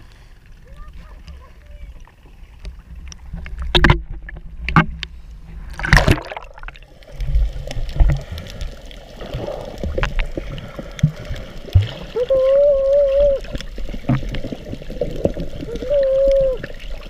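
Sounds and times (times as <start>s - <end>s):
water splashing against camera: 0.6s - 17.0s.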